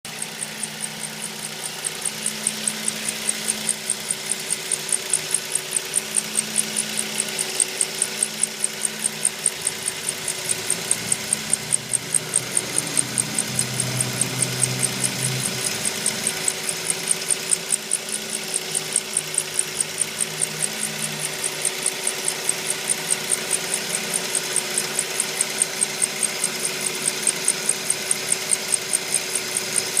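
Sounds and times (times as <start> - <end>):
car squeaking rhythmically: 0.1 - 30.0
steady mechanical hum: 0.1 - 30.0.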